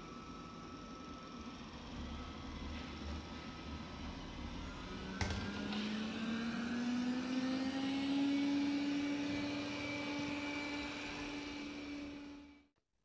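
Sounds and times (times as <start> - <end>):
robot vacuum fan hum: 0.0 - 12.7.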